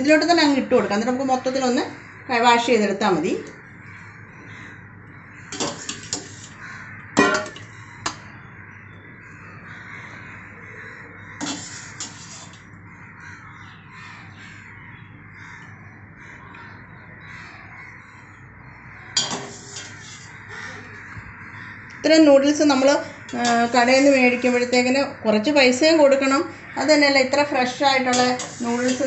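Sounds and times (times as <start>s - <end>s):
birds chattering: 0.1s - 29.0s
crows cawing: 1.7s - 2.6s, 3.4s - 25.1s, 25.8s - 29.0s.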